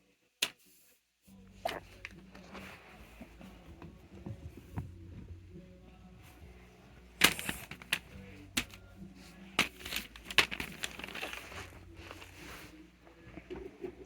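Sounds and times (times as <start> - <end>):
low steady hum: 1.3 - 14.0.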